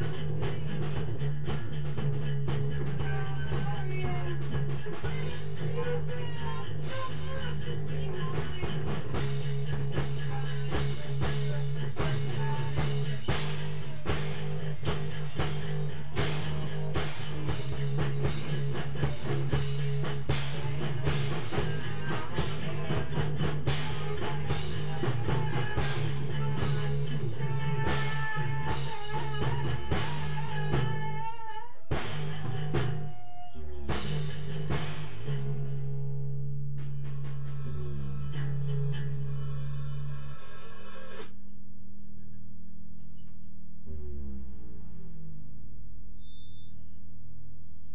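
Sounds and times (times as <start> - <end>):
drums: 0.0 - 47.0
guitar: 0.0 - 47.0
bass line: 0.0 - 47.9.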